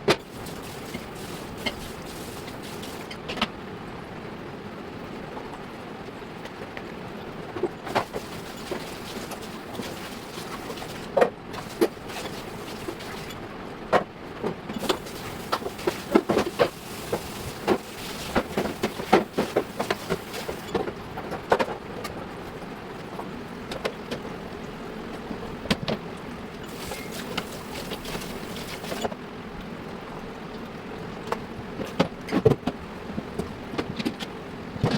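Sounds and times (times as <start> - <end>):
steady background hum: 0.0 - 34.9.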